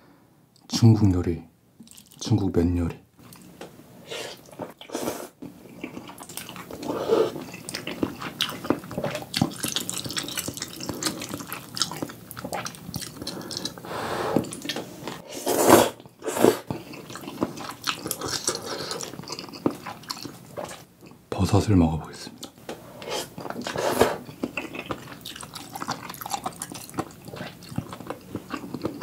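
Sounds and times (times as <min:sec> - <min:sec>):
person chewing noodles: 0:01.8 - 0:02.2, 0:04.3 - 0:21.2, 0:22.4 - 0:29.0.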